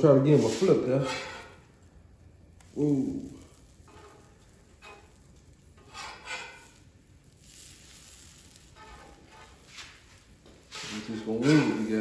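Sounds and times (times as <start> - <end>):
metal spatula scraping griddle: 0.2 - 1.8, 3.4 - 12.0.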